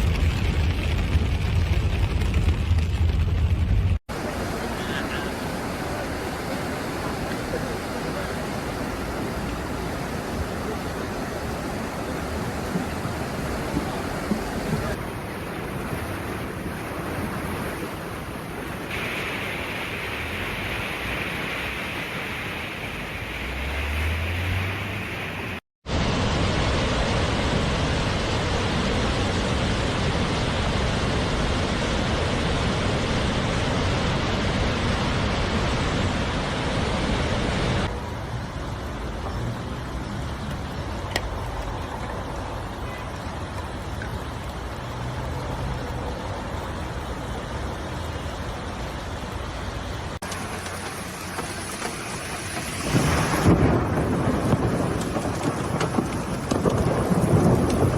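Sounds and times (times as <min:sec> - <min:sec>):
floodwater rushing: 0:00.0 - 0:57.9
torrential rain: 0:00.0 - 0:57.9.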